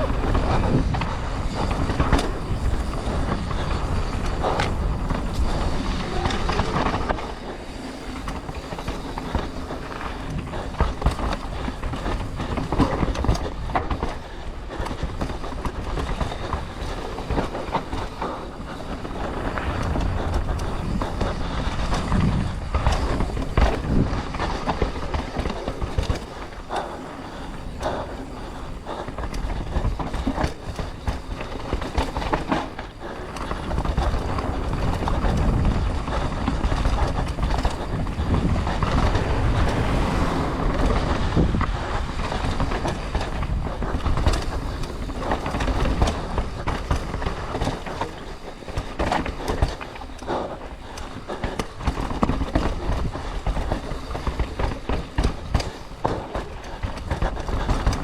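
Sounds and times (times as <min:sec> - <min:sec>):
bike chain and parts rattling: 0:00.0 - 0:58.0
tyres on dirt and rock: 0:00.0 - 0:58.0
wind rumbling on microphone: 0:00.0 - 0:58.0.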